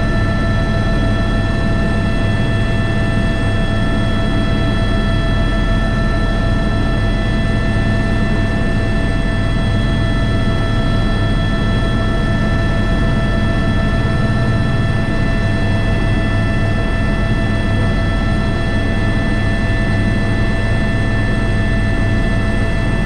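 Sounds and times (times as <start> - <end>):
helicopter turbine whine: 0.0 - 23.0.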